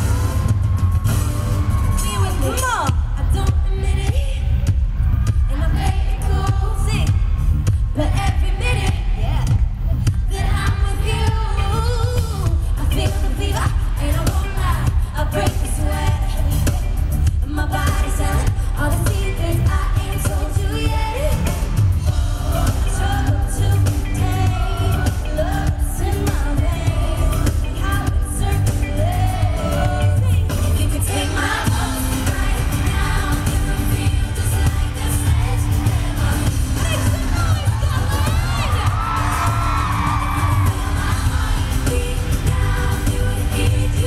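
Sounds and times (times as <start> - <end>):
live band with heavy bass: 0.0 - 44.0
female vocal group singing: 5.3 - 44.0.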